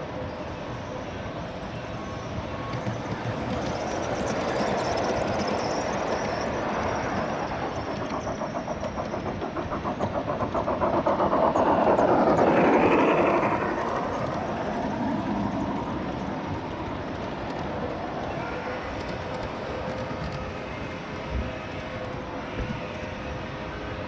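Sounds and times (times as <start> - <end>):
model train wheels clicking: 2.6 - 22.2.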